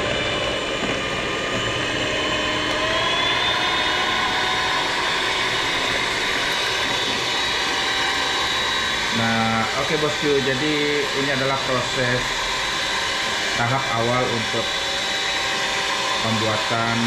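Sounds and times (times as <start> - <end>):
electric hand mixer whisking: 0.0 - 17.0.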